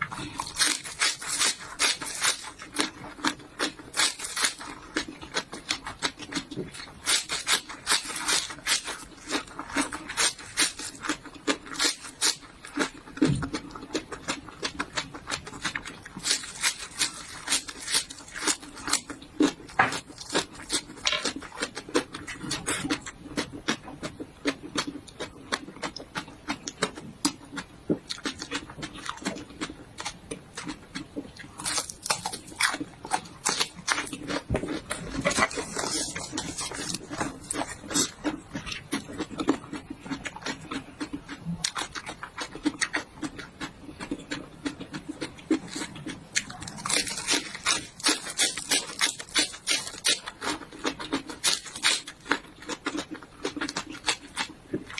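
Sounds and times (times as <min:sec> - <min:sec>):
crunching and chewing vegetables: 0:00.0 - 0:54.9.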